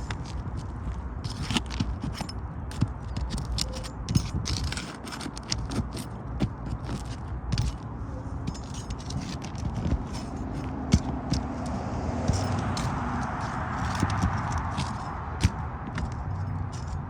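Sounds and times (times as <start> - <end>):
shingles crackling clicks: 0.0 - 7.8, 8.5 - 17.0
shingles scraping: 0.0 - 17.0.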